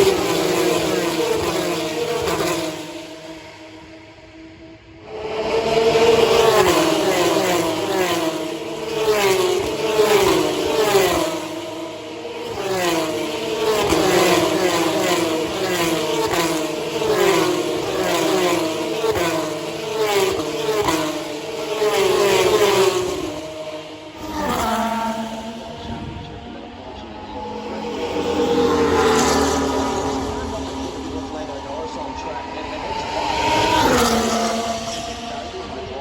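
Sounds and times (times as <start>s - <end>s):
racing cars passing by: 0.0s - 36.0s.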